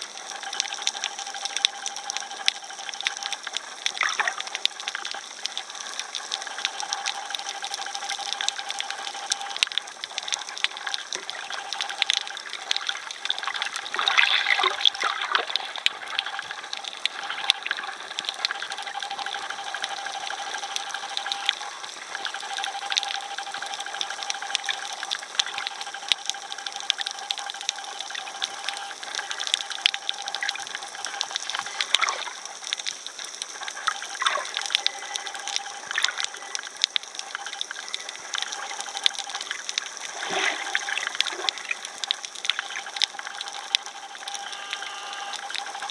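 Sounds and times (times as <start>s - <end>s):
faint steady tone: 0.0s - 45.9s
underwater hiss with crackles: 0.0s - 45.9s.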